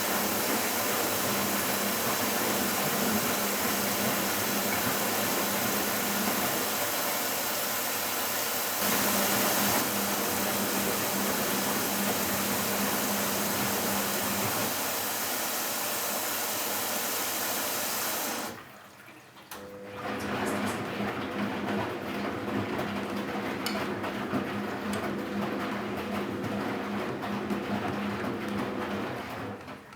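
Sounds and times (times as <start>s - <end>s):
washing machine running: 0.0s - 29.9s.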